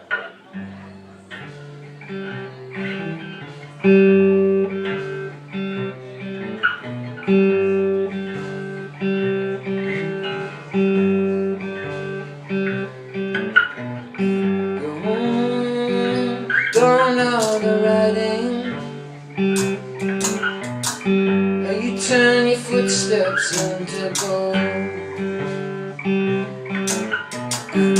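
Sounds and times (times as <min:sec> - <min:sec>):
guitar plucking chords: 0:00.0 - 0:27.9.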